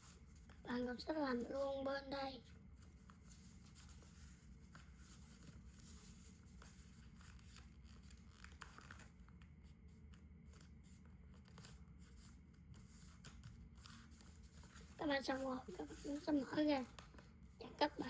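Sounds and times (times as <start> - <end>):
low room hum: 0.0 - 18.0
paper being folded: 2.5 - 18.0.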